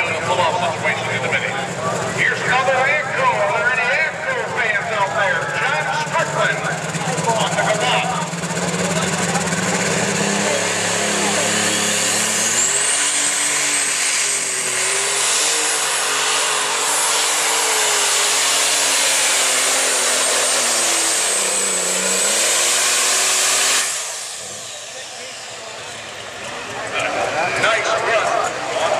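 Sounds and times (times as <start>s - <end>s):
high turbo whine: 0.0s - 28.9s
tractor engine revving: 0.0s - 28.9s.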